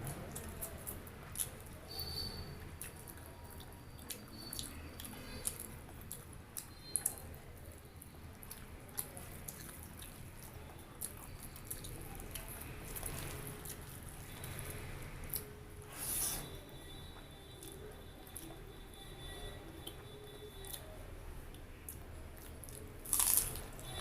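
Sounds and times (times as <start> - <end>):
close chewing and mouth sounds: 0.0 - 24.0.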